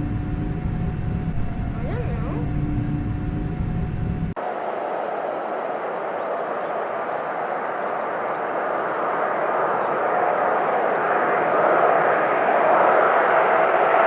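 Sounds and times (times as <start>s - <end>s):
airplane engine in flight: 0.0s - 14.0s.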